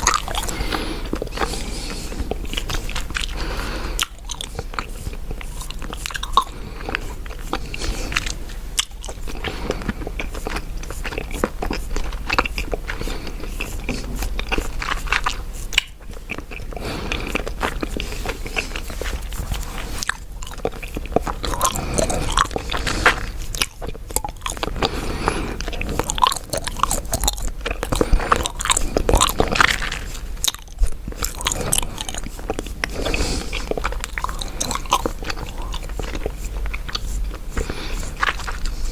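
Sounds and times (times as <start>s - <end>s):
gum chewing clicks and smacks: 0.0s - 38.9s.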